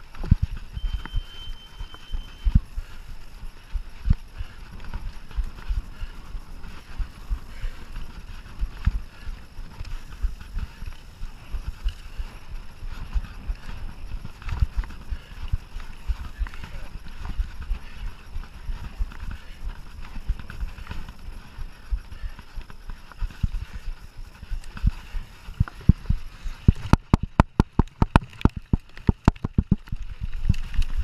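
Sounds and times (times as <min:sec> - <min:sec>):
bike knocking and rattling: 0:00.0 - 0:31.0
rolling tyre noise: 0:00.0 - 0:31.0.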